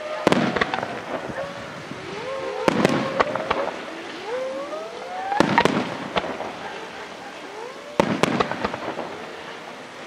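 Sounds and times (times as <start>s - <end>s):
rising firework whistle: 0.0s - 9.6s
fireworks bangs: 0.0s - 9.8s.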